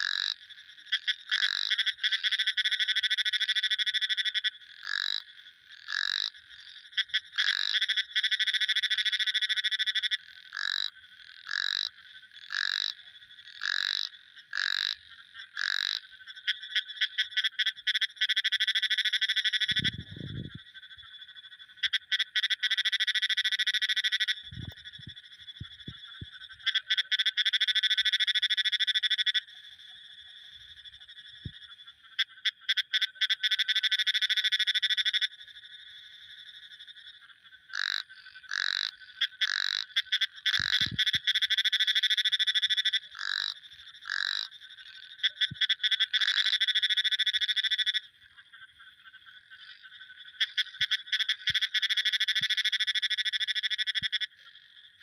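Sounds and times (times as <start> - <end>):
frogs trilling: 0.0 - 55.0.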